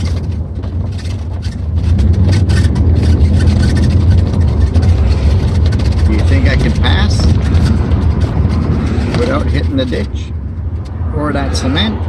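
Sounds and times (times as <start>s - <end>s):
clicks and rattles: 0.0s - 11.0s
truck engine and road drone: 0.0s - 12.0s.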